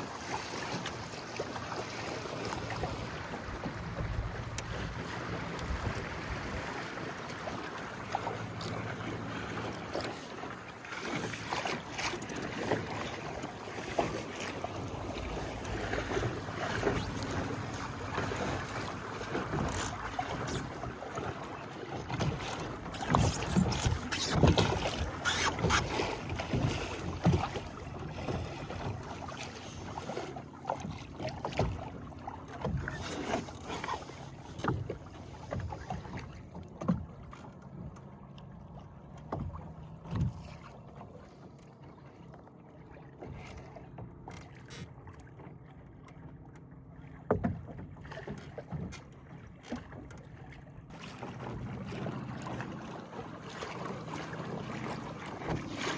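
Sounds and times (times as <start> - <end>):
water splashing against hull: 0.0 - 55.9.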